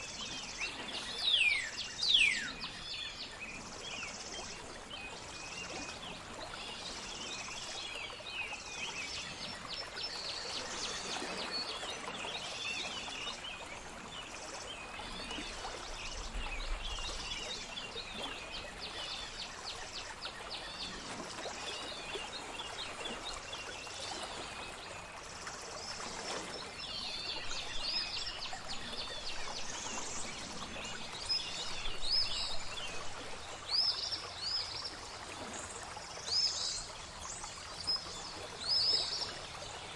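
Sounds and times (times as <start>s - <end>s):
trickle of flowing water: 0.0s - 39.9s.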